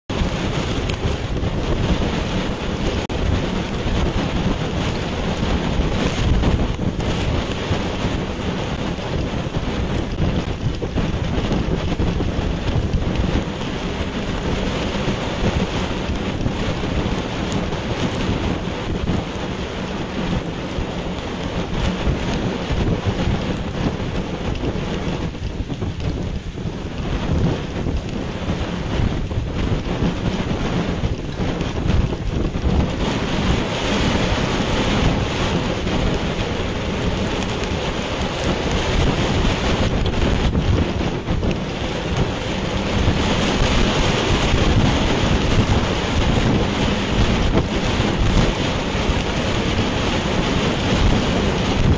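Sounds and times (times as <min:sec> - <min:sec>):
heavy rain in strong wind: 0:00.0 - 0:51.9.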